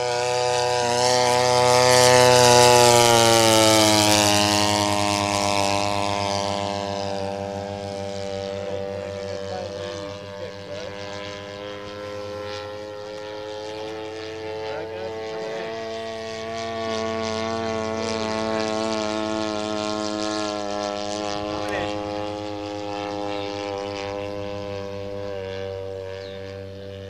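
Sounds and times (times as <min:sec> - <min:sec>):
model plane engine flying past: 0:00.0 - 0:27.0.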